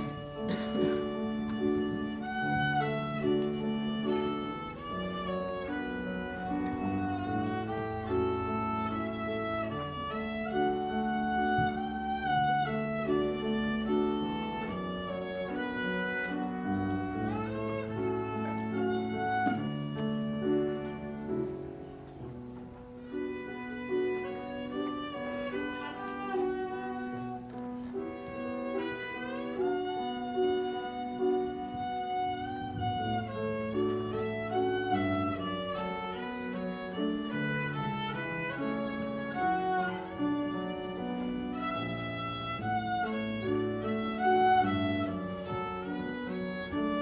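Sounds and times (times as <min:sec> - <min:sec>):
lower accompaniment: 0:00.0 - 0:47.0
violin melody: 0:00.0 - 0:47.0.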